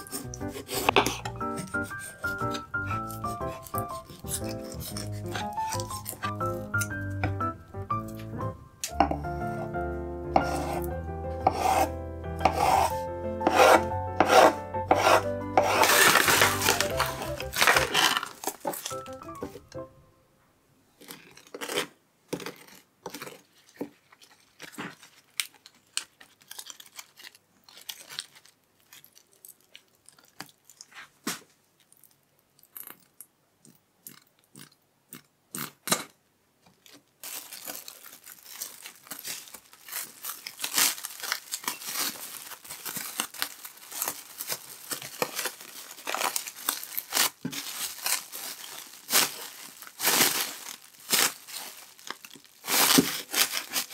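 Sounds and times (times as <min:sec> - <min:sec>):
plastic cling film crinkling: 0:00.0 - 0:09.8, 0:12.5 - 0:19.9, 0:22.5 - 0:32.2, 0:36.6 - 0:53.9.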